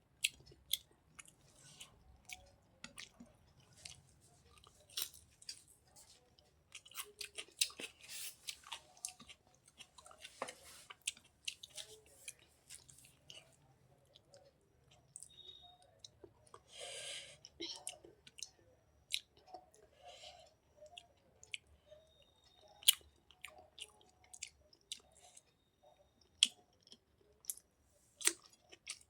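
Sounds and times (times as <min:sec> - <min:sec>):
chewing food: 0:00.2 - 0:16.7, 0:17.4 - 0:29.0.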